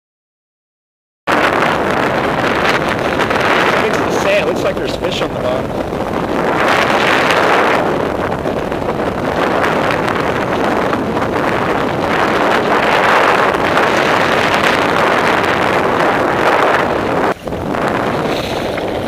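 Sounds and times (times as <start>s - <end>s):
wind buffeting microphone: 1.3s - 19.0s.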